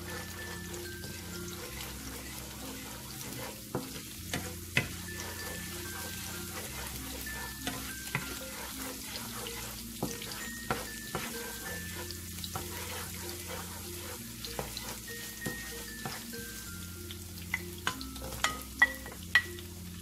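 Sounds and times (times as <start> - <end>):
food sizzling in hot oil: 0.0 - 20.0
light background tune: 0.0 - 20.0.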